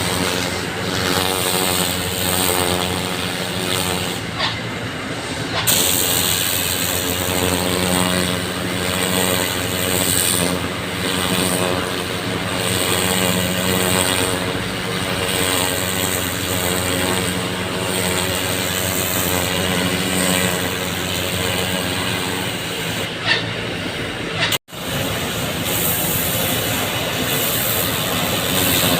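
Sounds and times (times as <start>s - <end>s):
water jetting from hose: 0.0s - 23.4s, 24.5s - 28.9s
engine running: 0.0s - 28.9s.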